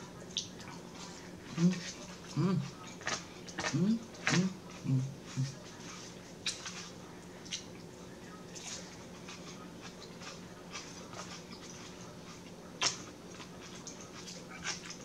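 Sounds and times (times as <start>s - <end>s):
chewing and lip-smacking: 0.0s - 15.0s
low steady hum: 0.0s - 15.0s.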